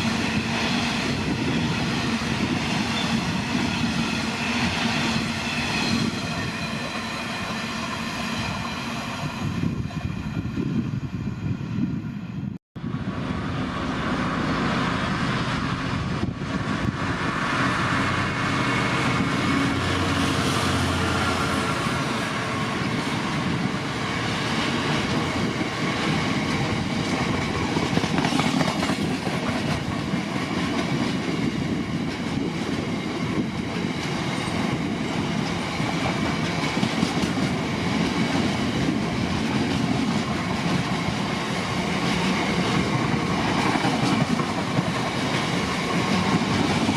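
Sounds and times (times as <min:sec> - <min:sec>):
freight train passing: 0:00.0 - 0:46.9.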